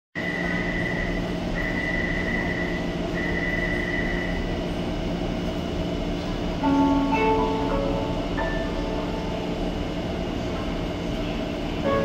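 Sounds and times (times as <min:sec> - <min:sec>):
high steady whine: 0:00.2 - 0:12.0
metro train rumbling in tunnel: 0:00.2 - 0:12.0.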